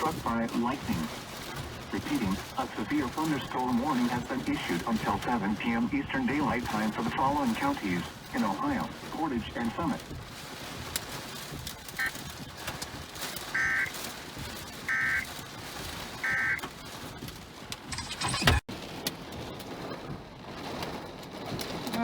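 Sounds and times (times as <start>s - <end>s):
hail hitting: 0.0s - 18.0s, 18.6s - 22.0s.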